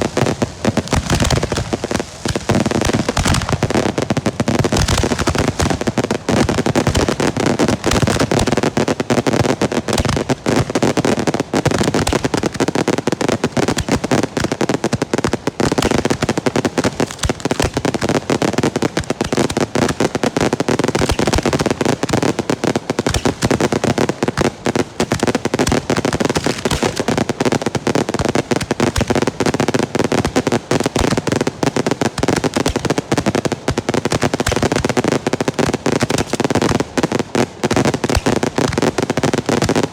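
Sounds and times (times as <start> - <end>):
firecracker barrage: 0.0 - 39.9.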